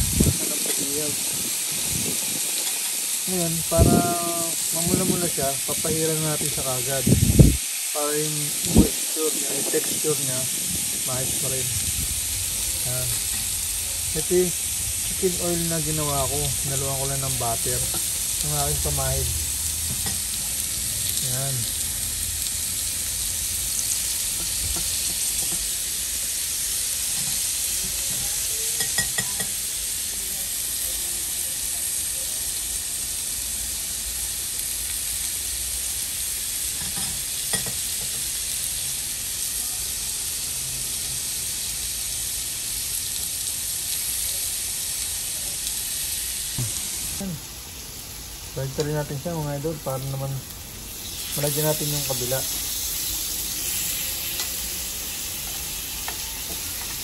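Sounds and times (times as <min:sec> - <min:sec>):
chicken sizzling on a grill: 0:00.0 - 0:57.0.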